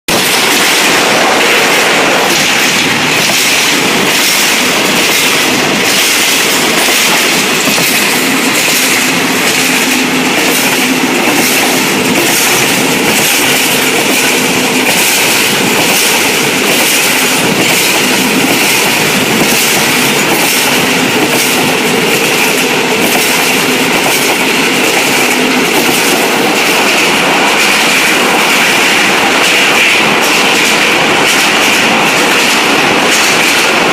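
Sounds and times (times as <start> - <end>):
train rumble: 0.1 - 33.9
train wheels clacking over rail joints: 0.1 - 33.9.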